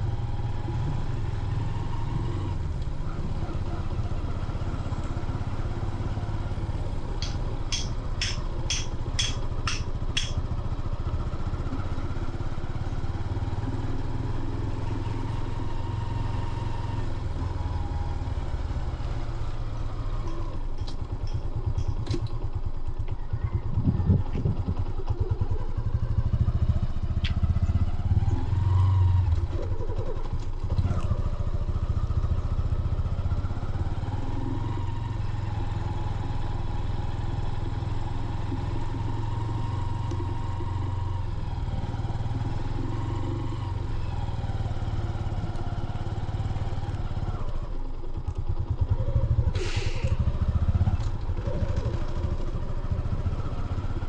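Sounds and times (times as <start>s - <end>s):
road noise: 0.0s - 54.0s
vehicle engine driving: 0.0s - 54.0s.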